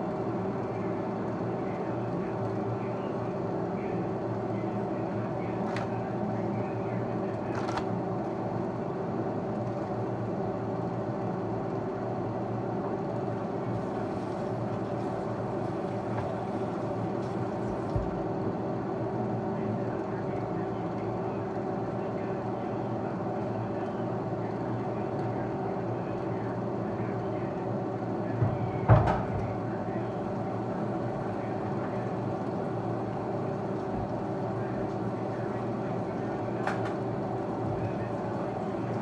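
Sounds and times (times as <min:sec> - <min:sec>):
mechanical hum: 0:00.0 - 0:39.0.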